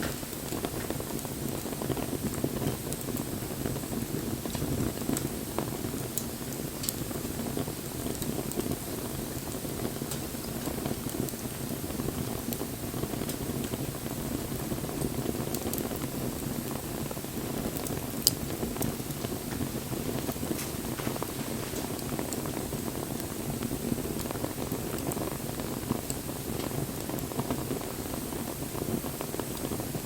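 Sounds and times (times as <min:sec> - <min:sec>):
rush of campfire flames: 0:00.0 - 0:30.0
wood crackling and popping: 0:00.0 - 0:30.0.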